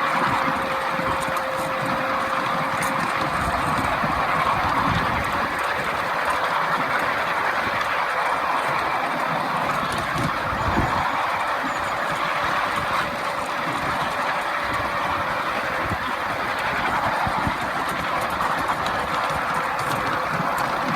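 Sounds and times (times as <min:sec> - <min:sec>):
track clicks: 0:00.0 - 0:20.9
train wheels rumbling on rail: 0:00.0 - 0:20.9.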